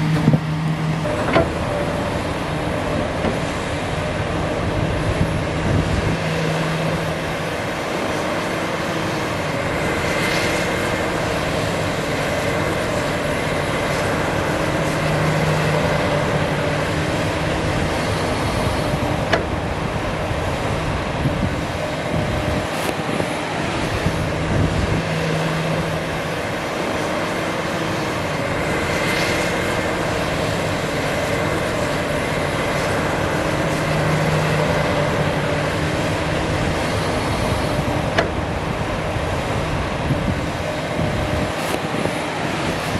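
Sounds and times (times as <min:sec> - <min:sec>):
dump truck diesel engine: 0:00.0 - 0:42.9
excavator diesel engine: 0:00.0 - 0:42.9.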